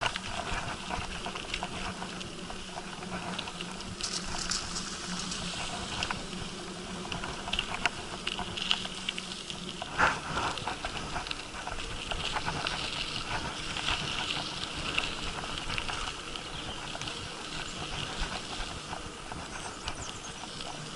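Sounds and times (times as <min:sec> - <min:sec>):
bicycle rattling and clicking: 0:00.0 - 0:20.9
steady rushing noise: 0:00.0 - 0:20.9.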